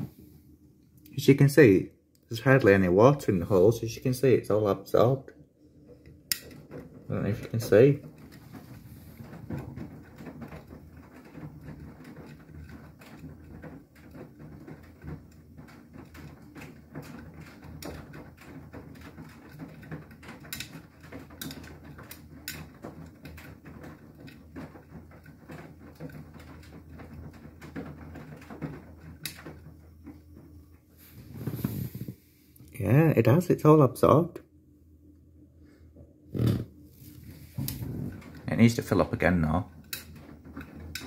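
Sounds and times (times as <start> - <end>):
washing machine motor hum: 0.0 - 41.0
laundry tapping in drum: 2.4 - 31.9, 36.4 - 41.0.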